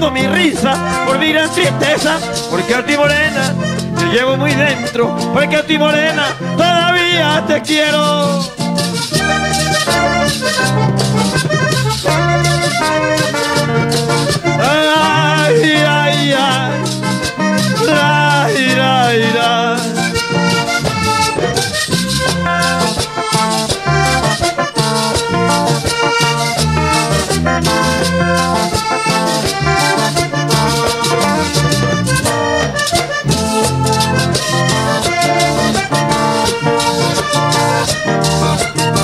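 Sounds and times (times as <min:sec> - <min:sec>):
button accordion melody: 0:00.0 - 0:39.0
caja drum: 0:00.0 - 0:39.0
electric bass: 0:00.0 - 0:39.0
scraper percussion: 0:00.0 - 0:39.0.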